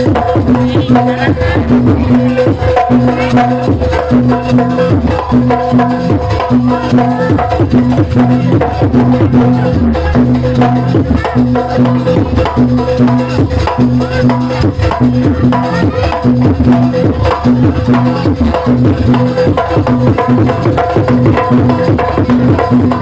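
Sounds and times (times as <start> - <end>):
hand drums struck fast: 0.0 - 23.0.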